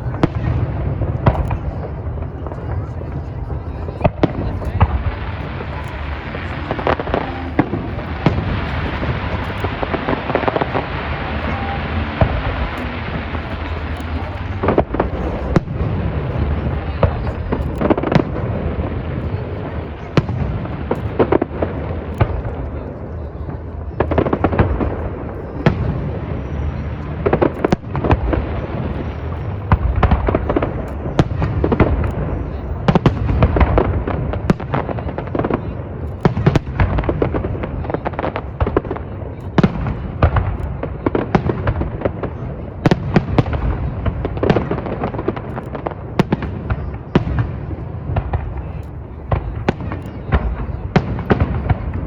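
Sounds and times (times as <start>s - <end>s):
fireworks bangs and crackles: 0.0s - 52.0s
rumble of explosions: 0.0s - 52.0s.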